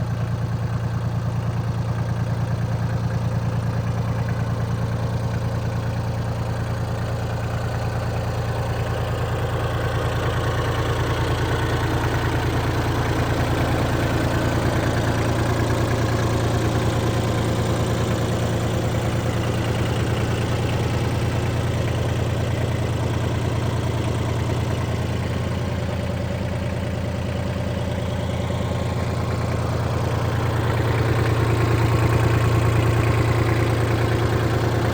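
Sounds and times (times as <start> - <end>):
diesel tractor engine idling: 0.0 - 34.9.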